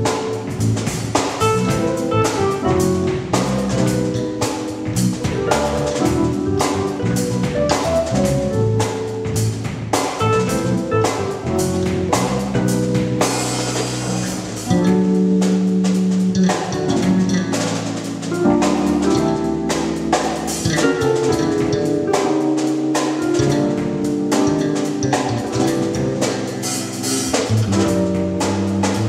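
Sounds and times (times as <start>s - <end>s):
drum kit beat: 0.0s - 29.0s
electric bass: 0.0s - 29.0s
keyboard chords: 0.0s - 29.0s.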